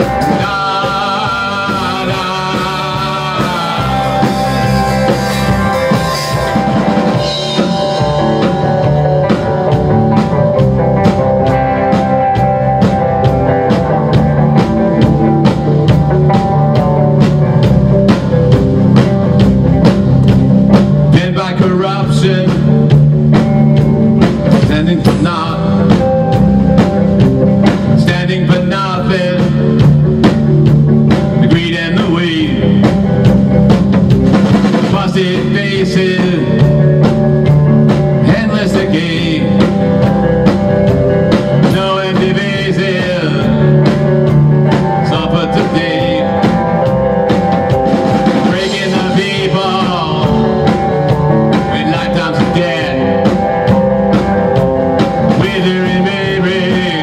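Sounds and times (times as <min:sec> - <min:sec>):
drum kit beat: 0:00.0 - 0:57.0
electric guitars: 0:00.0 - 0:57.0.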